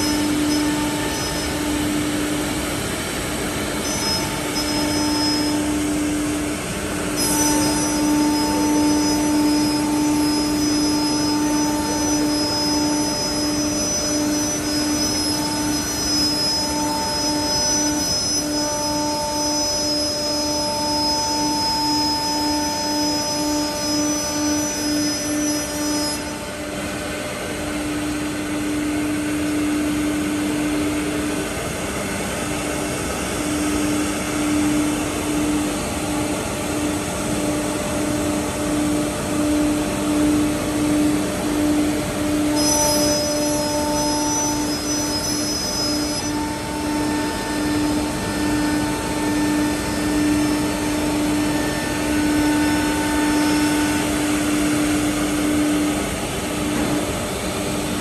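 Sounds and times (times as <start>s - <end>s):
thin high whine: 0.0s - 58.0s
wood router spindle tone: 0.0s - 58.0s.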